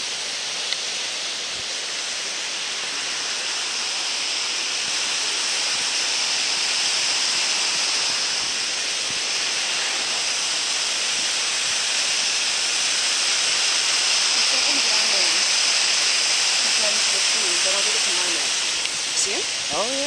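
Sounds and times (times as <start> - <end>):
water rushing over stones: 0.0 - 20.0.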